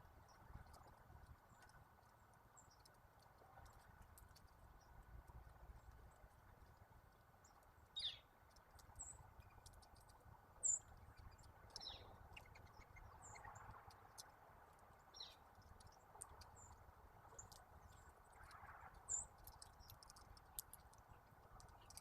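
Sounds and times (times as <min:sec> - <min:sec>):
faint ticks: 0:00.0 - 0:22.0
songbirds chipping: 0:00.0 - 0:22.0.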